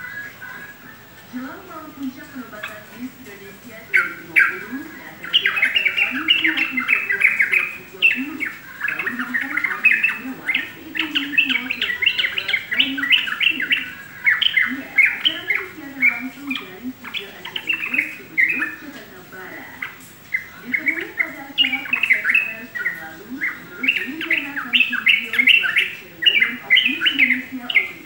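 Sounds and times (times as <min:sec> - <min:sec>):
bulbul singing: 0:00.0 - 0:28.0.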